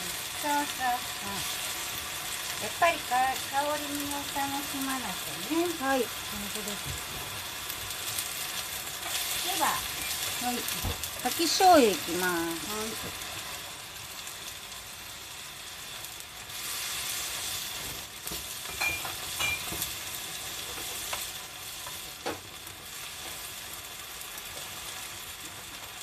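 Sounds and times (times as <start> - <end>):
food sizzling in a frying pan: 0.0 - 26.0.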